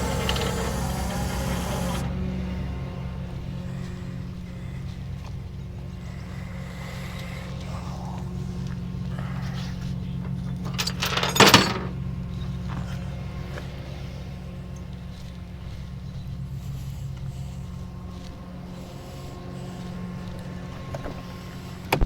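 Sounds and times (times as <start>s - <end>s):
vehicle engine idling: 0.0s - 10.8s, 11.9s - 21.9s.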